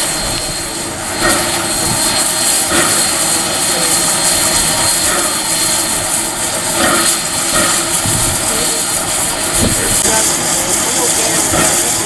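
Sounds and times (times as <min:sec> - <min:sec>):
high steam hiss: 0:00.0 - 0:12.0
steam locomotive roaring: 0:00.0 - 0:12.0.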